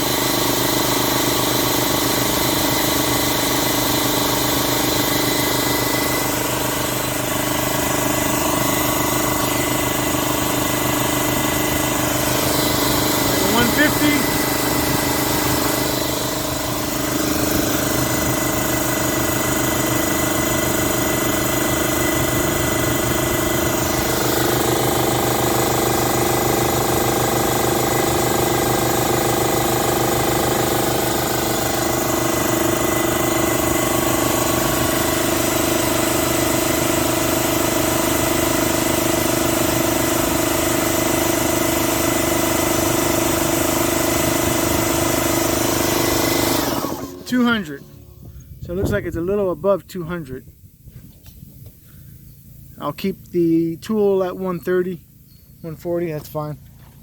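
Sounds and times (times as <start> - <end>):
air compressor pumping: 0.0 - 57.0
portable generator running: 0.0 - 57.0.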